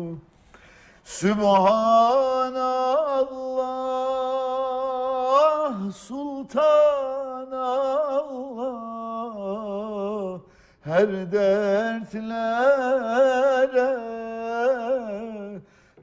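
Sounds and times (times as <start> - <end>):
man singing unaccompanied: 0.0 - 0.3, 1.0 - 16.0.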